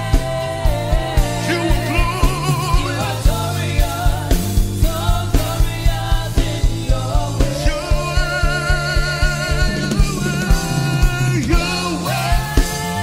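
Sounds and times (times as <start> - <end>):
drum kit beat: 0.0 - 13.0
singers with band: 0.0 - 13.0.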